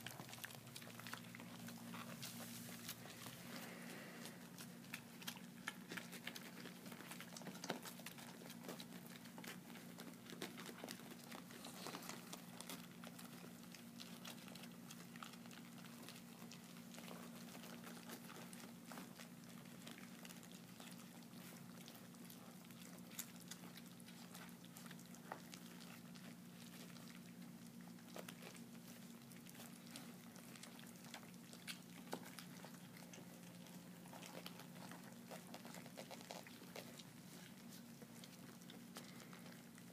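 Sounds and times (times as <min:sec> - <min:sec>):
puppies smacking and lapping: 0:00.0 - 0:39.9
steady low hum: 0:00.0 - 0:39.9.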